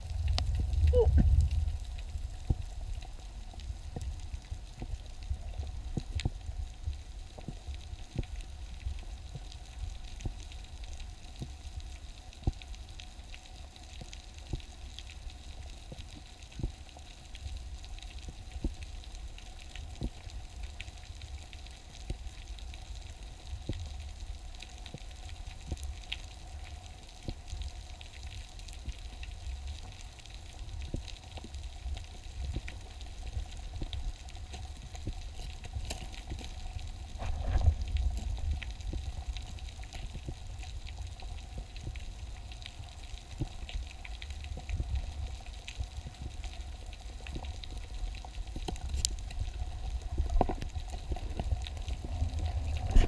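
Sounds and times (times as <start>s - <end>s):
sharp clicks and crackles: 0.0s - 53.0s
underwater low rumble: 0.0s - 53.0s.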